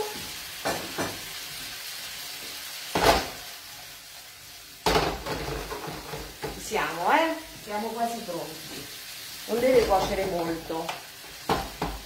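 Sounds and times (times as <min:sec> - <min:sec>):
tomatoes sizzling in a frying pan: 0:00.0 - 0:12.0.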